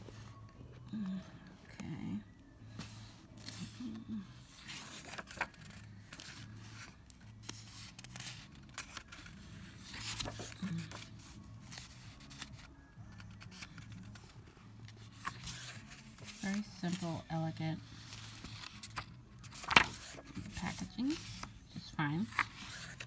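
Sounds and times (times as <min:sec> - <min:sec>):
paper pages being turned: 0:02.7 - 0:23.0.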